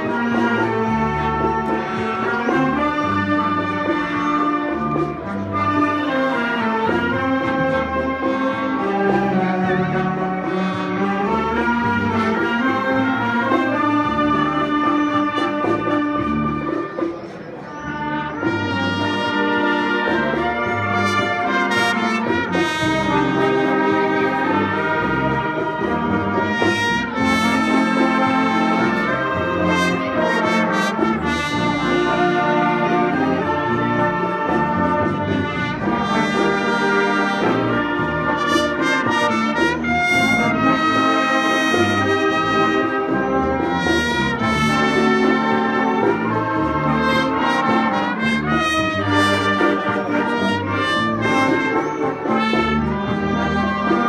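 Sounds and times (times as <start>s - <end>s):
saxophones and clarinets: 0.0s - 54.0s
trumpets and trombones: 0.0s - 54.0s.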